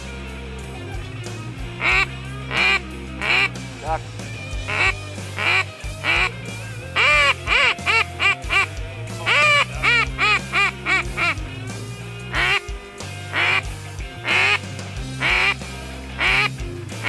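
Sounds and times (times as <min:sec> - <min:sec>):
background music: 0:00.0 - 0:17.0
duck quacking: 0:00.7 - 0:11.5, 0:12.3 - 0:17.0.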